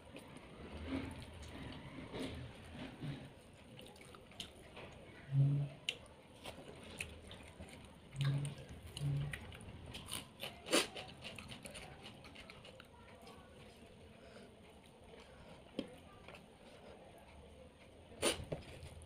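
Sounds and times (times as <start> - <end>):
person chewing: 0.1 - 4.9, 5.8 - 19.0.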